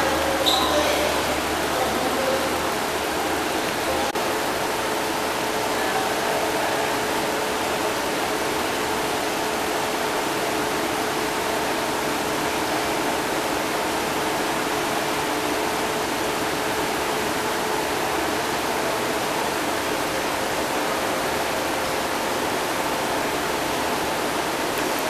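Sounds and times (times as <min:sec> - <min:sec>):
aquarium aeration hiss: 0:00.0 - 0:25.0.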